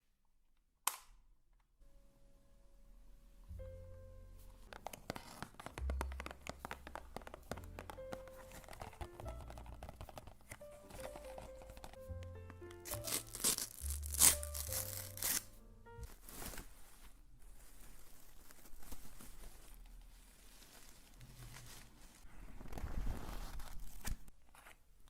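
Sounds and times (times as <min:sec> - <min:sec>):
soft background music: 0:01.8 - 0:23.1
crinkling and tearing: 0:04.7 - 0:24.8.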